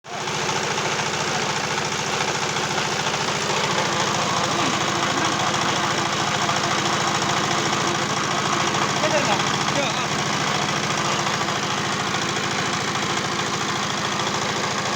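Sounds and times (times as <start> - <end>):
pellet machine running: 0.1 - 14.9.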